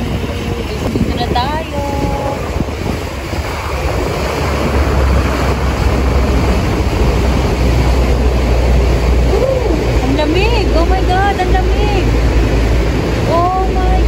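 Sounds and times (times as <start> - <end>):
motorboat engine rumble: 0.0 - 14.0
rushing water: 0.0 - 14.0
wind: 0.0 - 14.0.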